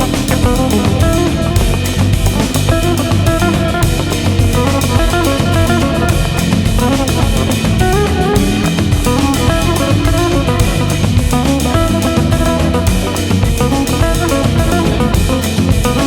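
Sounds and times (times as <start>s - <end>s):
upbeat drum and guitar music: 0.0s - 16.0s.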